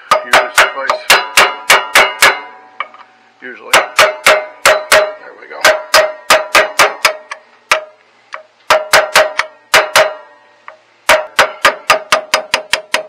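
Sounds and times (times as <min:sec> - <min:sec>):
hammer striking metal punch: 0:00.0 - 0:03.0, 0:03.7 - 0:13.0.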